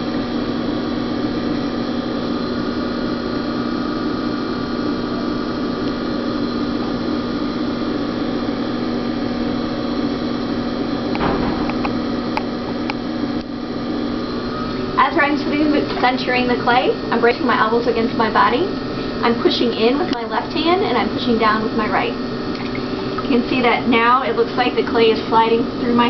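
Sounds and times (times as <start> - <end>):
potter's wheel motor hum: 0.0 - 26.0.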